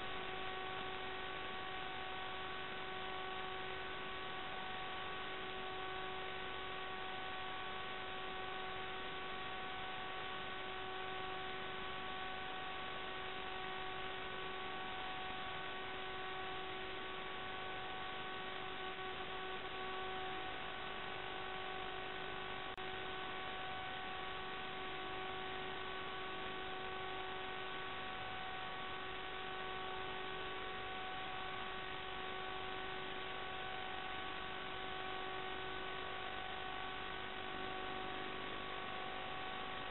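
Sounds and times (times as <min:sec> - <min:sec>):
electrical hum and hiss: 0:00.0 - 0:39.9.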